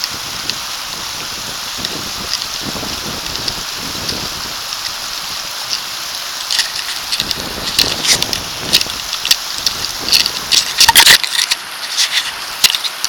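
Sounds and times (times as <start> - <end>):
crackling splashes: 0.0 - 13.0
water rushing over rocks: 0.0 - 13.0.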